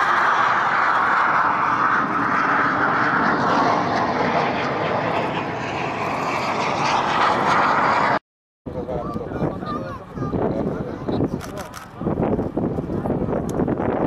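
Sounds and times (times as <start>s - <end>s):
small aircraft engine: 0.0s - 14.0s.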